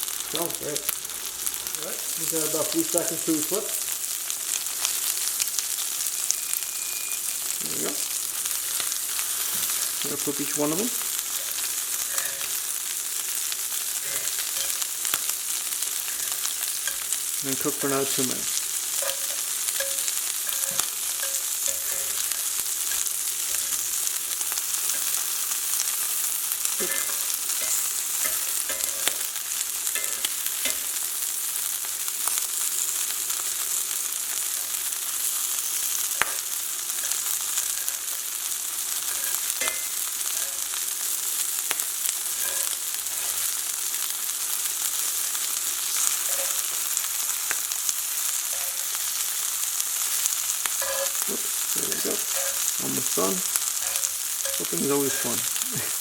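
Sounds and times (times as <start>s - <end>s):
shrimp frying in hot oil: 0.0s - 56.0s.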